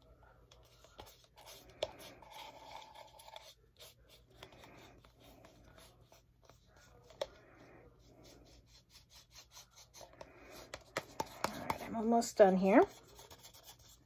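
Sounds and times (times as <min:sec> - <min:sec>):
paintbrush brushing inside plastic cup: 0:00.0 - 0:14.0.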